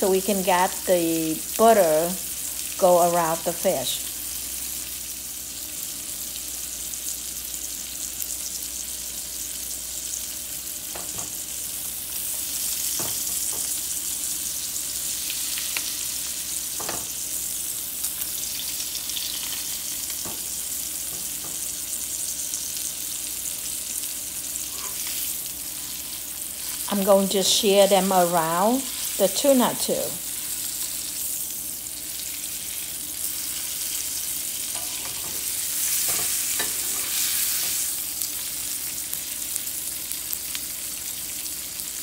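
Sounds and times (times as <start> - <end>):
fish sizzling in a skillet: 0.0 - 42.0.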